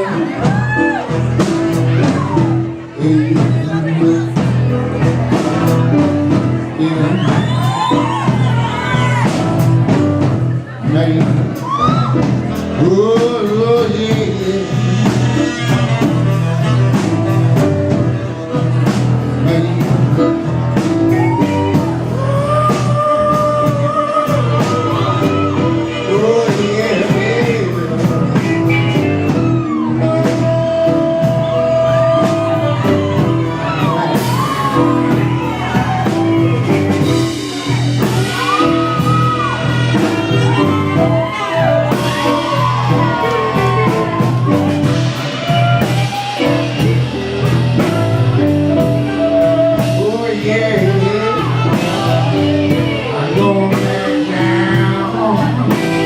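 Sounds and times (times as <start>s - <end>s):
loud rock music with singer: 0.0s - 56.0s.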